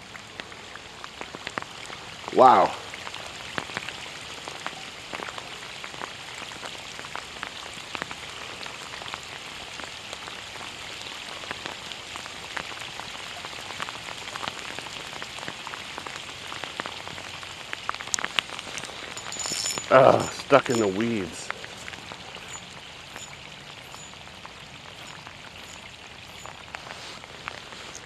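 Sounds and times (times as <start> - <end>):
raindrops tapping: 0.0 - 28.0
steady rain hiss: 0.0 - 28.0.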